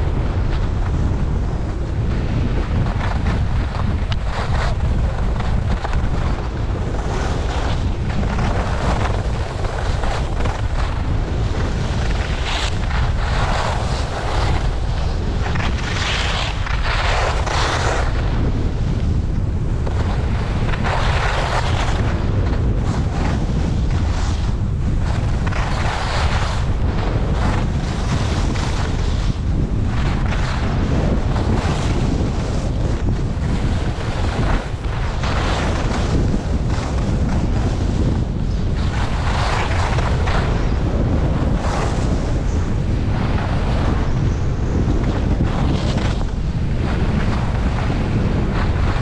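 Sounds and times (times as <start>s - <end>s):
skis scraping on packed snow: 0.0s - 49.0s
wind rushing over microphone: 0.0s - 49.0s.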